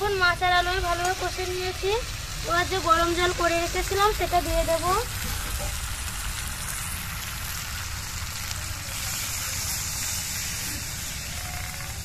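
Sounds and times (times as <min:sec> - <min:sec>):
curry sizzling in a pan: 0:00.0 - 0:12.0
hot water pouring: 0:00.9 - 0:12.0.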